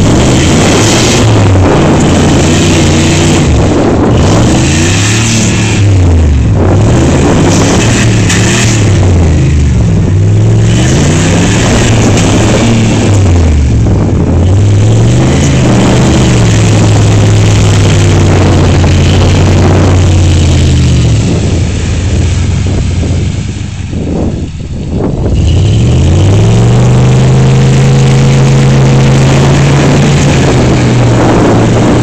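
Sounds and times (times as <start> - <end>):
engine revving hard: 0.0 - 24.4, 25.0 - 32.0.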